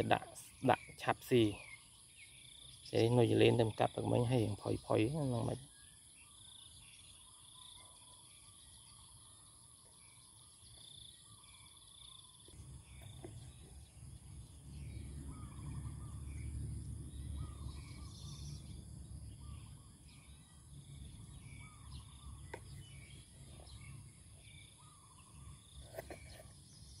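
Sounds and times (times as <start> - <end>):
bird calling: 0.0 - 27.0
insects trilling: 0.0 - 27.0.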